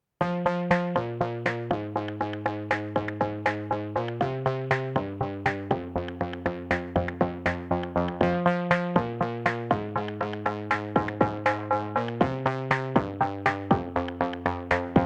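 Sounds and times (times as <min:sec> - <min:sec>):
electronic synthesizer music: 0:00.2 - 0:15.0.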